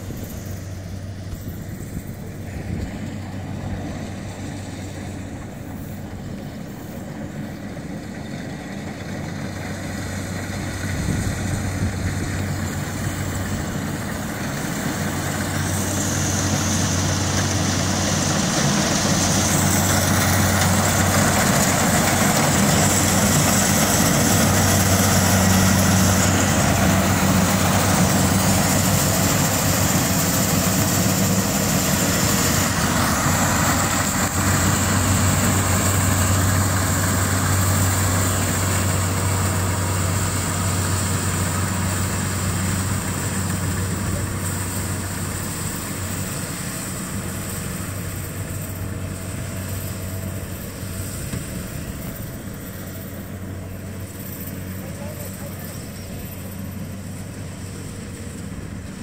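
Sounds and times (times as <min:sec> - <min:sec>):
diesel engine droning: 0:00.0 - 0:59.0
machinery high whine: 0:00.0 - 0:59.0.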